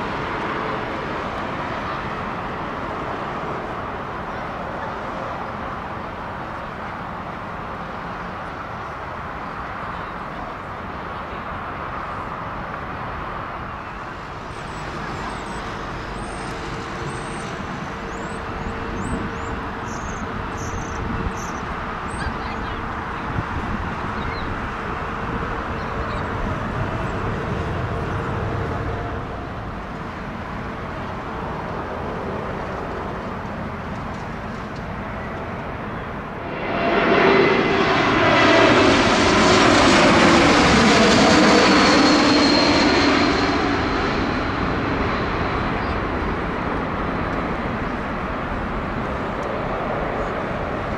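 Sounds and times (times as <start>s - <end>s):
distant jet airliner rumble: 0.0s - 50.9s
jet passing low overhead: 0.0s - 50.9s.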